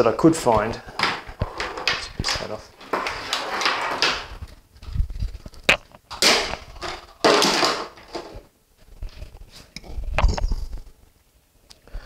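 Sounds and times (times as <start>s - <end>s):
rustling: 0.0s - 11.4s.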